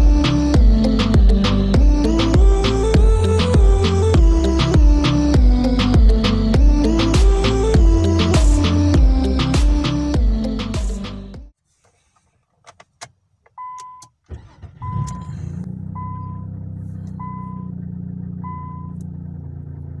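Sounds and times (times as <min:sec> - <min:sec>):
car engine cranking and idling: 0:00.0 - 0:20.0.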